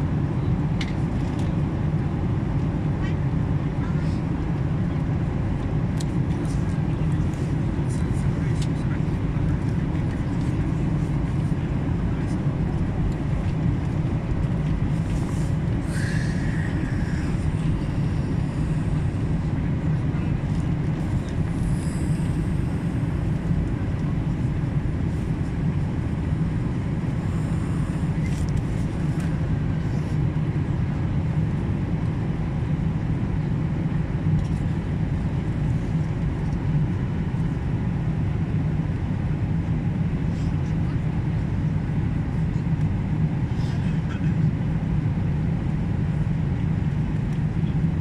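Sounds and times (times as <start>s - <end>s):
airliner cabin roar: 0.0s - 48.0s.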